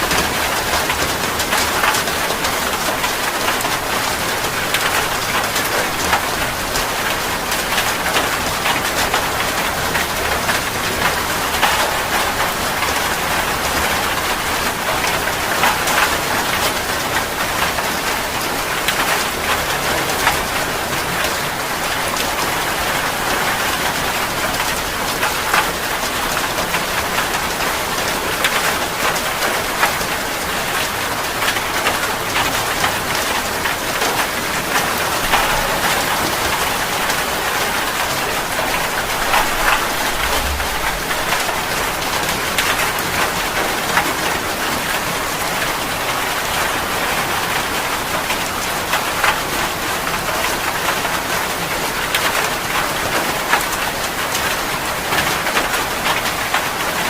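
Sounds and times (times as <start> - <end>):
heavy rain falling: 0.0 - 57.0
raindrops striking close by: 0.0 - 57.0.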